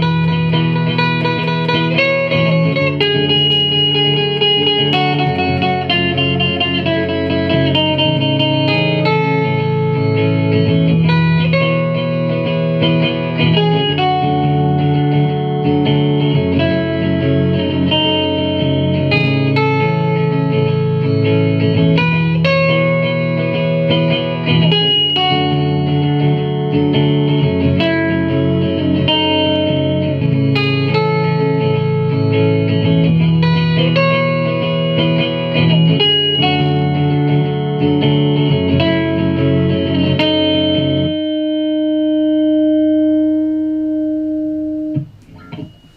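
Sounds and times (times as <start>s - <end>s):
electric guitar with effects: 0.0s - 45.9s.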